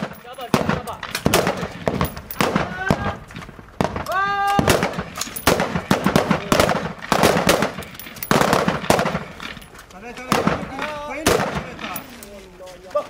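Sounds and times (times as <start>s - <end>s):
rifle shots: 0.0s - 12.1s.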